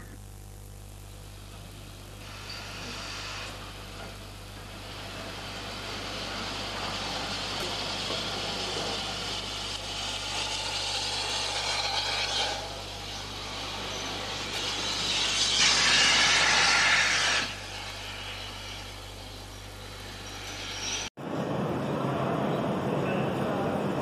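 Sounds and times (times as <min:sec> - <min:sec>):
mains hum: 0:00.0 - 0:24.0
steam locomotive: 0:01.4 - 0:24.0
hissing rush: 0:02.1 - 0:21.7.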